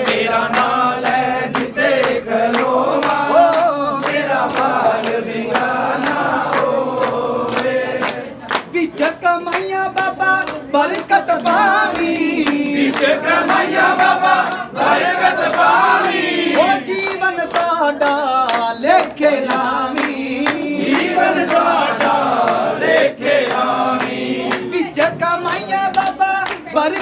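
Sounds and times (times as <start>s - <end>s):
men singing devotional song: 0.0s - 27.0s.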